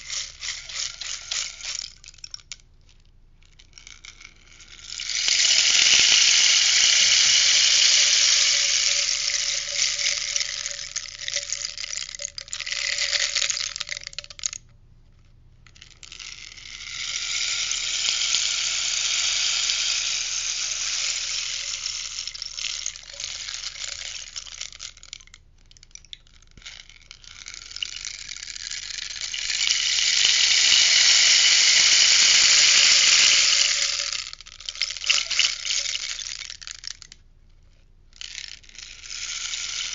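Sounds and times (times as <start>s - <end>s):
rainstick pellets pattering: 0.0s - 2.7s, 3.4s - 14.7s, 15.6s - 37.2s, 38.2s - 39.9s.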